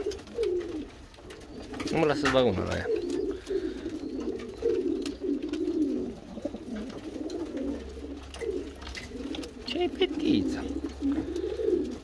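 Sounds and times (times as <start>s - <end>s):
pigeon cooing: 0.0s - 12.0s.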